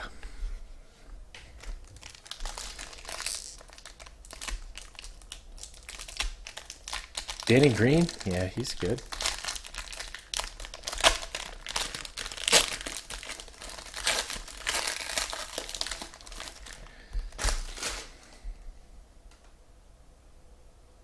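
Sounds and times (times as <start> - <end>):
plastic wrapper crinkling: 1.4 - 18.3.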